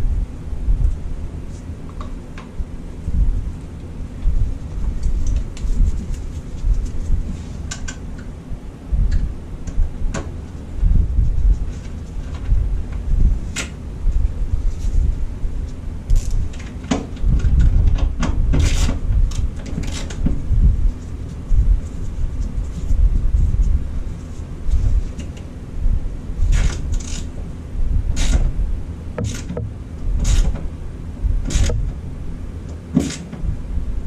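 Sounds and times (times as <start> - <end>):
low rumble: 0.0 - 32.5.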